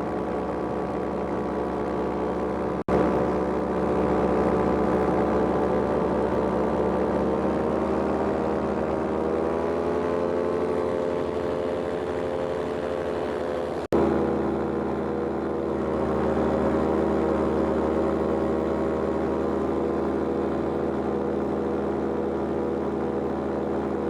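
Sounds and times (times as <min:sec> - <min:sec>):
paraglider engine and propeller: 0:00.0 - 0:24.0.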